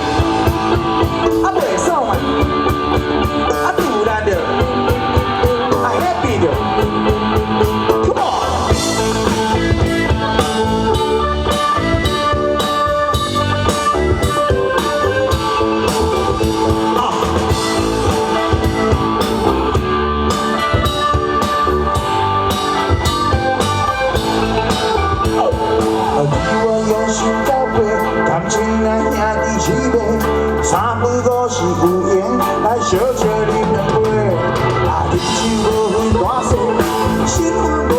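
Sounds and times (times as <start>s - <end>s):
drum kit steady beat: 0.0s - 37.9s
guitar: 0.0s - 37.9s
rock band instrumental: 0.0s - 37.9s.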